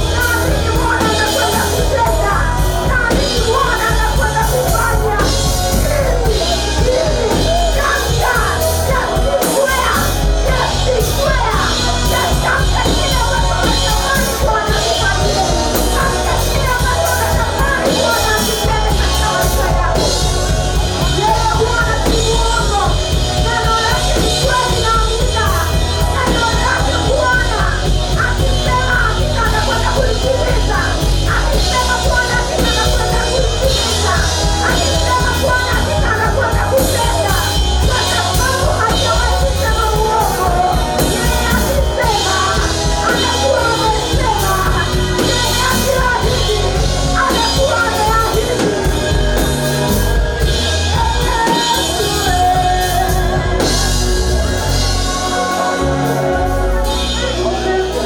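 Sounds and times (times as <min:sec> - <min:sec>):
worship music with singing: 0:00.0 - 0:58.0.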